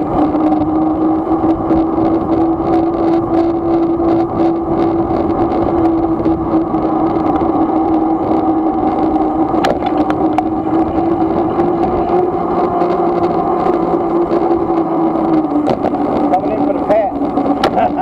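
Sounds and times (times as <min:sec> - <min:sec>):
electric motor whining: 0:00.0 - 0:18.0
wind rumble on microphone: 0:00.0 - 0:18.0.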